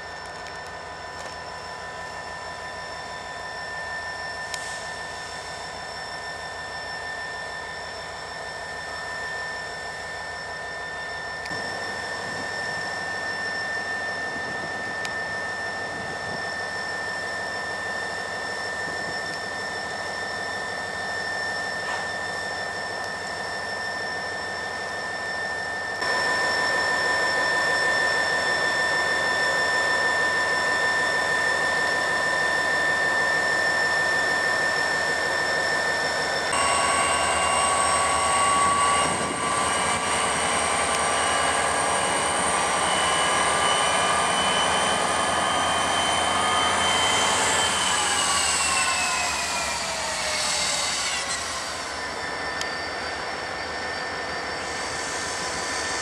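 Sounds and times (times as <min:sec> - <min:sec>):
diesel locomotive idling whine: 0:00.0 - 0:56.0.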